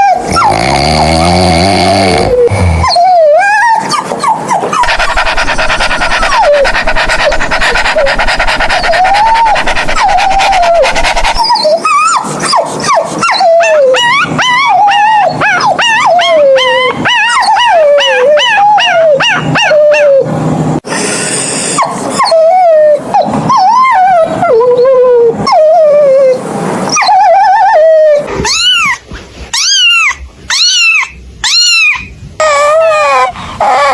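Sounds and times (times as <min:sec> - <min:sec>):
dog whining and howling: 0:00.0 - 0:20.3, 0:21.6 - 0:33.9
dog whines and yips: 0:02.8 - 0:20.3, 0:21.6 - 0:33.9.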